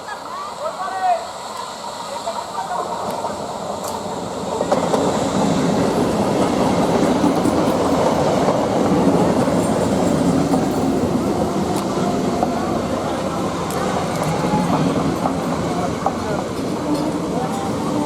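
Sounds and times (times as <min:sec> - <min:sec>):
train rumbling on rails: 0:00.0 - 0:18.0
wheels clickety-clack: 0:03.0 - 0:18.0.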